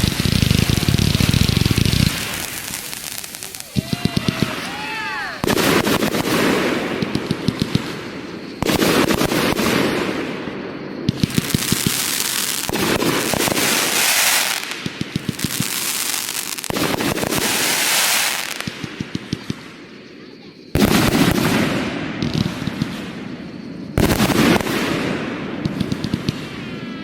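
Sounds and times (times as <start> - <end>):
fireworks fizzing hiss: 0.0 - 27.0
fireworks popping and crackling: 0.0 - 27.0.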